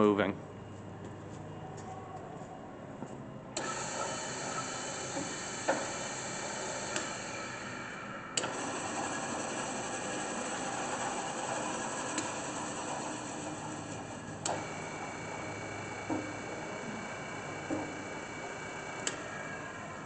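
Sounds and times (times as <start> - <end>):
drill press motor whine: 3.5 - 20.0.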